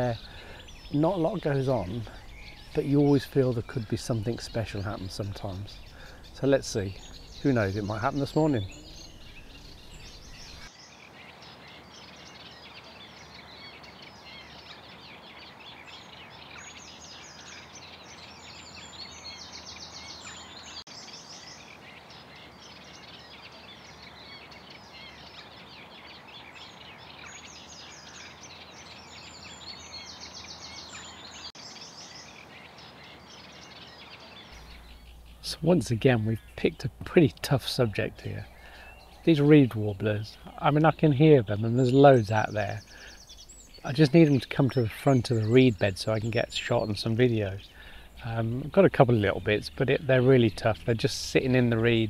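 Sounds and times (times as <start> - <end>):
background hiss: 0.0 - 52.0
birds singing chattering song: 0.0 - 52.0.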